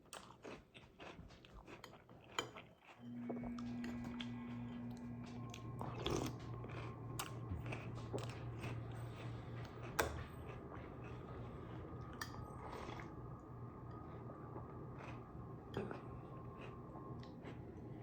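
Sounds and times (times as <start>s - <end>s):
person chewing crunchy cereal: 0.0s - 4.2s, 5.2s - 18.0s
low hum: 3.0s - 18.0s.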